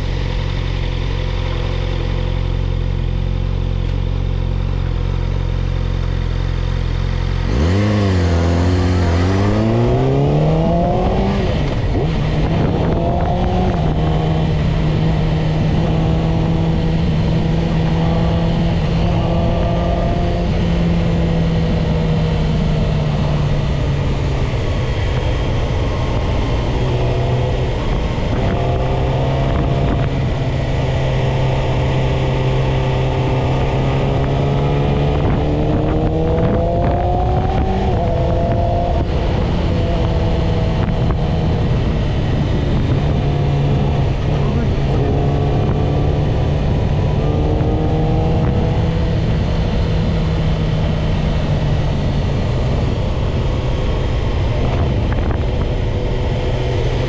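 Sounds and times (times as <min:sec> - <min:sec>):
motorcycle engine revving: 0:00.0 - 0:57.0
wind rush: 0:07.4 - 0:57.0.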